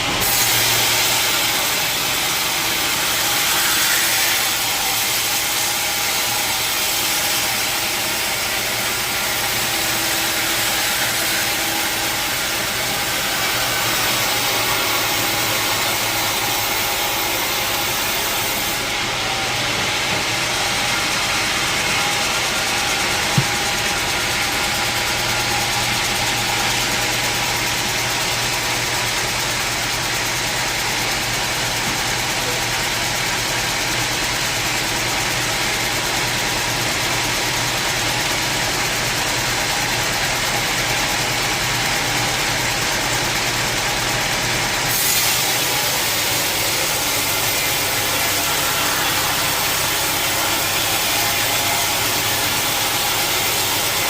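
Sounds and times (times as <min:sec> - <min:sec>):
sawmill saw and motor running: 0:00.0 - 0:54.0.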